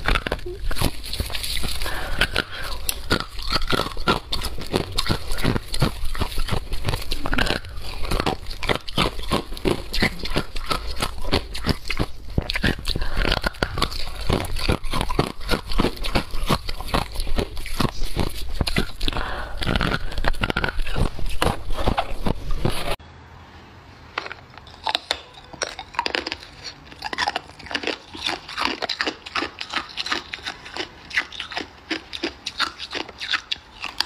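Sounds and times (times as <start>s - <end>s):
ice being chewed crunching: 0.0s - 23.0s, 24.2s - 34.0s.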